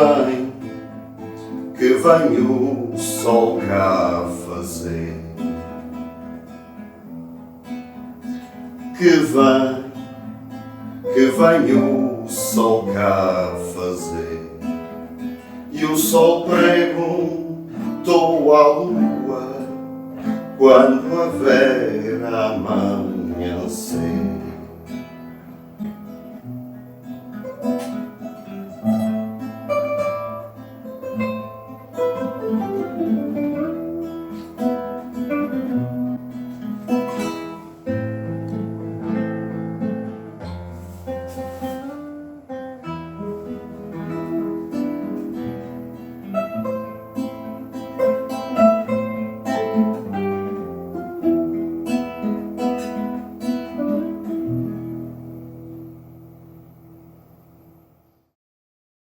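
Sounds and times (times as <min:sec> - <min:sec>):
acoustic guitar playing: 0:00.0 - 0:58.2.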